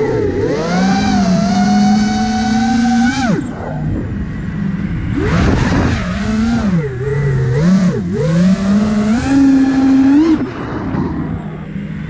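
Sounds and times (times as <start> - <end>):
drone motors whining: 0.0 - 12.0
rush of wind: 0.0 - 12.0.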